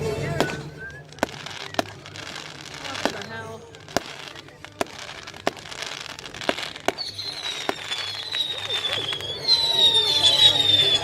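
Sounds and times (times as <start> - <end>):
fireworks cracking: 0.0 - 11.0
fireworks whistles falling in pitch: 0.2 - 11.0.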